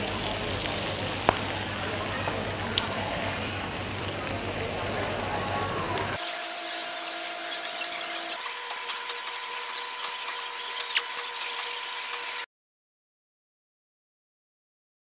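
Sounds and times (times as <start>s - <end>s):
meat sizzling on griddle: 0.0s - 12.4s.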